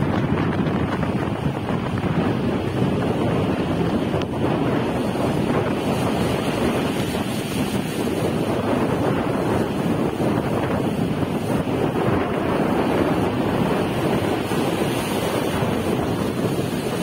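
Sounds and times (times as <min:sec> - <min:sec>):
sea surf breaking on sand: 0:00.0 - 0:17.0
wind buffeting microphone: 0:00.0 - 0:17.0.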